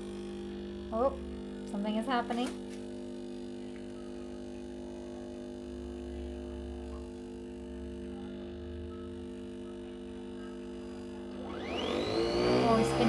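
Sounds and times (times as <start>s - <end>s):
coffee machine humming: 0.0s - 13.0s.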